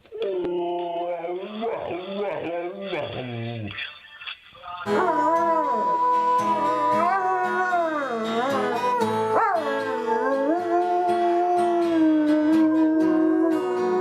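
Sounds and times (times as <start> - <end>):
dog howling: 0.0 - 3.6, 4.9 - 14.0.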